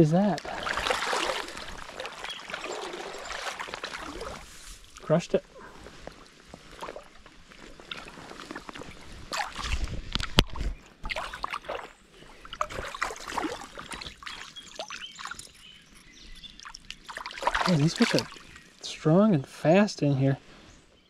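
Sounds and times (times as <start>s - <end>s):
creek water splashing: 0.0s - 19.1s.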